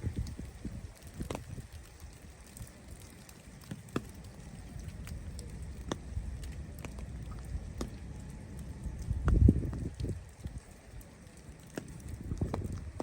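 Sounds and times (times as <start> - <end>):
low steady rumble: 0.0 - 13.0
snow ticking and pattering: 0.0 - 13.0.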